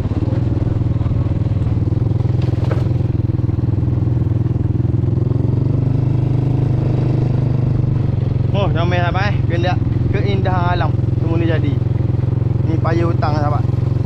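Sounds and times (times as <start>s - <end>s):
small petrol engine running: 0.0s - 14.0s.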